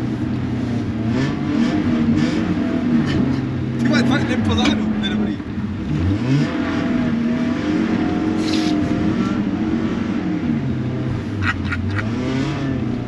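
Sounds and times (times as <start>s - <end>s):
car engine revving: 0.0s - 13.0s
road and tyre noise: 0.0s - 13.0s.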